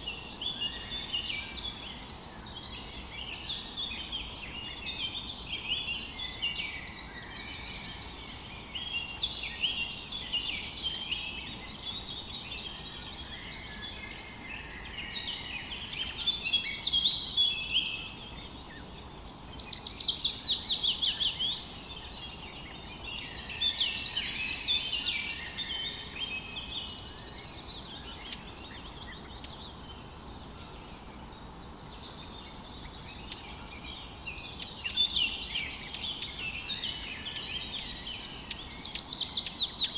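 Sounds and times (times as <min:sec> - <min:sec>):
faint steady background hiss: 0:00.0 - 0:39.9
songbirds chirping and trilling: 0:00.0 - 0:39.9.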